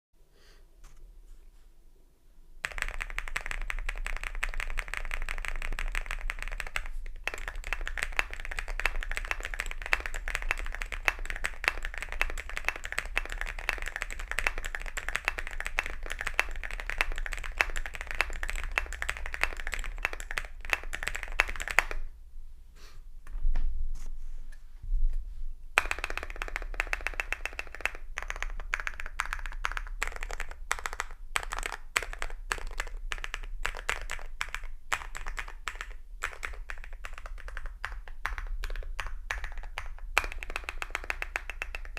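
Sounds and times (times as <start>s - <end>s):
mechanical keyboard typing: 2.6s - 22.0s, 25.8s - 41.9s.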